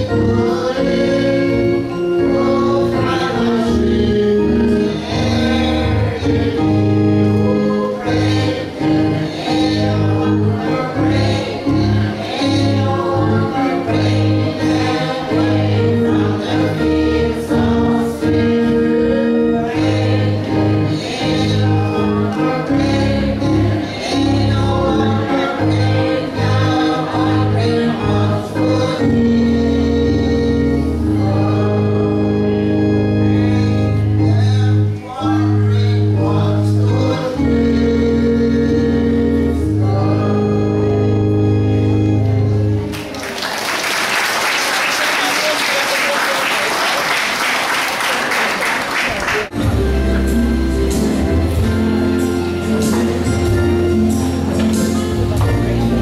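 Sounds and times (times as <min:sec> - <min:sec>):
congregation singing a hymn: 0:00.0 - 0:56.0
organ notes: 0:00.0 - 0:56.0.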